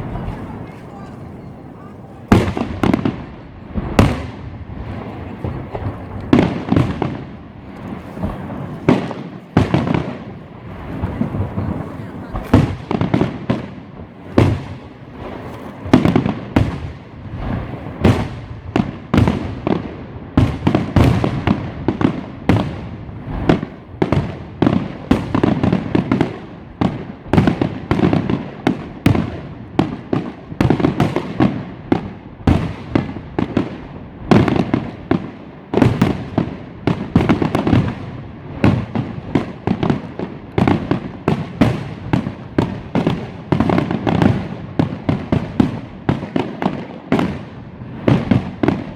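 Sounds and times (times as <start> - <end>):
fireworks bangs and cracks: 0.0 - 48.9.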